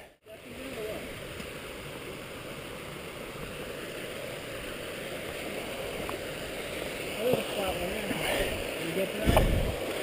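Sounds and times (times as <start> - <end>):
brook running over rocks: 0.3 - 10.0.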